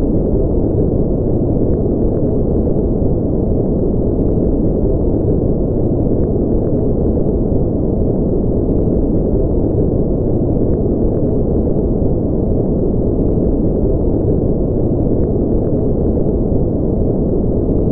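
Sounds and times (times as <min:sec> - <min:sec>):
steady low-pitched noise: 0:00.0 - 0:17.9.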